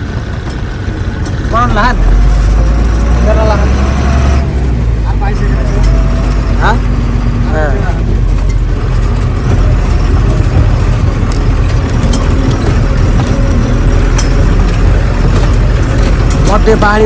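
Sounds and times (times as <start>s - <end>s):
light rattles: 0.0s - 17.0s
truck engine rumbling: 0.0s - 17.0s.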